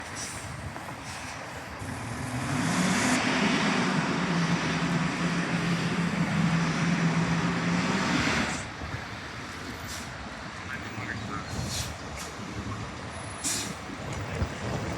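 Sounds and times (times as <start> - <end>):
fire engine driving past: 0.0 - 14.9.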